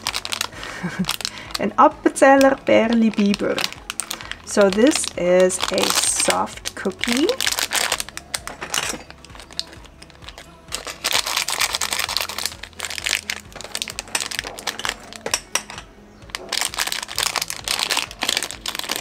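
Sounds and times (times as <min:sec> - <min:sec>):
plastic wrapper crinkling: 0:00.0 - 0:19.0.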